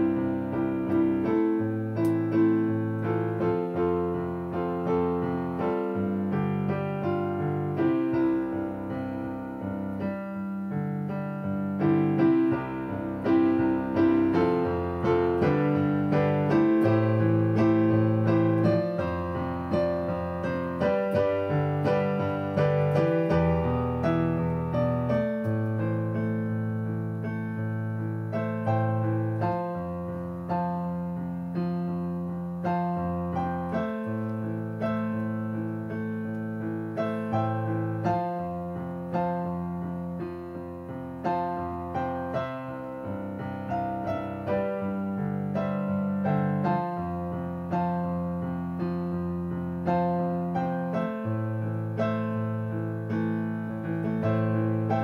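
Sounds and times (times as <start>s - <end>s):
digital piano playing slow chords: 0.0s - 55.0s.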